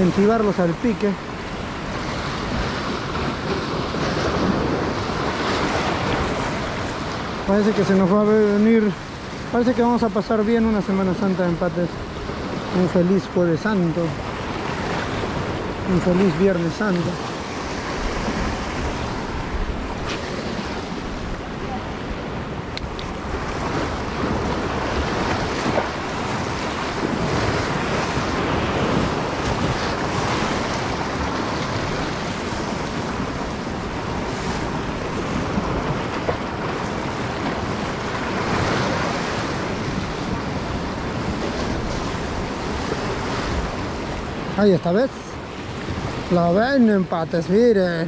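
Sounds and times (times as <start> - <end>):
wind buffeting microphone: 0.0 - 44.8
sea surf washing in: 0.0 - 48.0.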